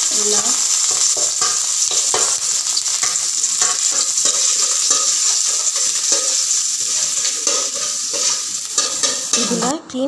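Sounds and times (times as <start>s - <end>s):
spices sizzling in hot oil: 0.0s - 9.8s
metal spoon scraping a pan: 0.2s - 9.7s.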